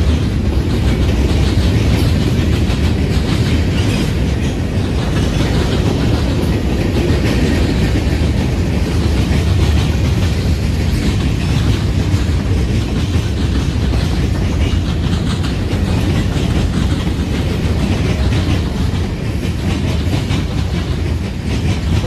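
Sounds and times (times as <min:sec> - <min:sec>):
freight train rumble: 0:00.0 - 0:22.0
wheels clattering over rails: 0:00.0 - 0:22.0.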